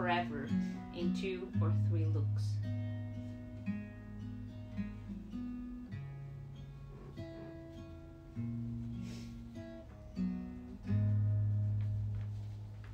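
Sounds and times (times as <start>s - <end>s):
guitar chords: 0.0s - 12.9s.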